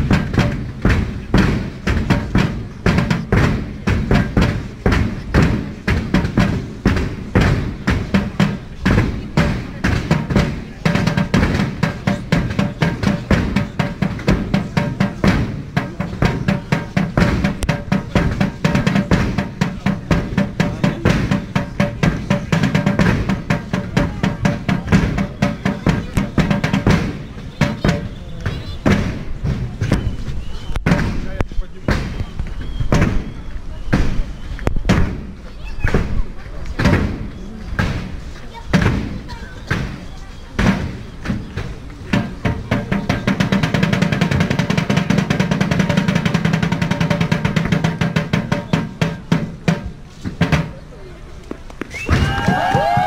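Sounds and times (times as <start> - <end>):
bass drum and snare drumming: 0.0 - 50.9, 51.8 - 53.0.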